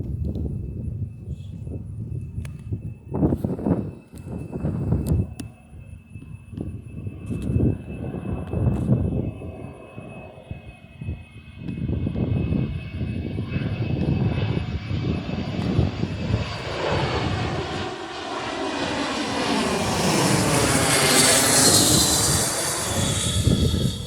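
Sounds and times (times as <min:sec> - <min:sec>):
jet airliner roar passing: 0:00.0 - 0:24.0.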